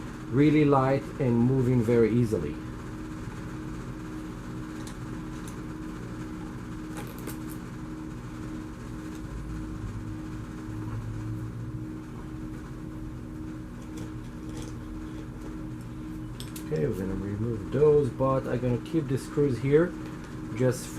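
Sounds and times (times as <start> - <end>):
steady mechanical hum: 0.0 - 20.9.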